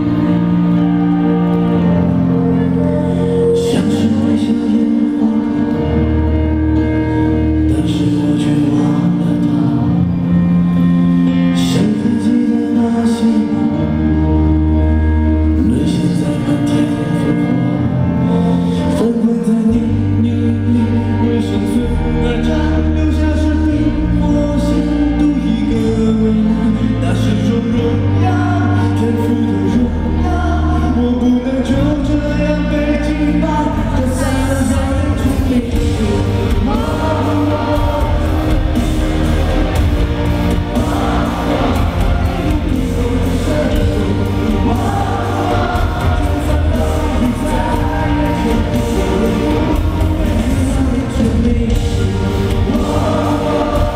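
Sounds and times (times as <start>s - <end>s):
amplified band with heavy bass: 0.0s - 53.9s
man singing into microphone: 1.3s - 10.4s, 11.5s - 39.8s, 40.5s - 53.9s.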